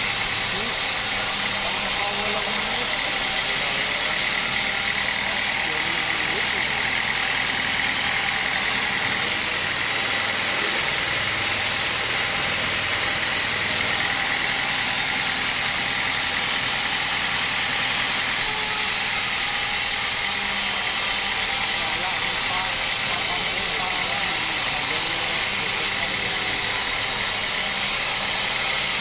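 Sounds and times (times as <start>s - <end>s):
bandsaw mill sawing wood: 0.0s - 29.0s
high machine whine: 0.0s - 29.0s.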